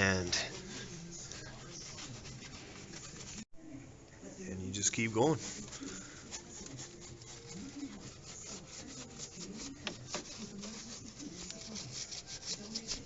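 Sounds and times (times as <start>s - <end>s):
hand brush scrubbing wet parts: 0.0s - 3.5s, 4.9s - 13.0s.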